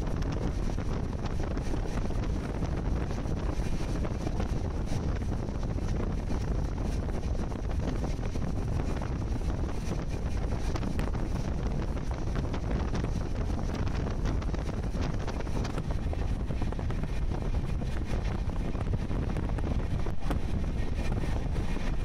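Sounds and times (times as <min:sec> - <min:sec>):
train rumbling at speed: 0:00.0 - 0:22.0
wind buffeting microphone: 0:00.0 - 0:22.0.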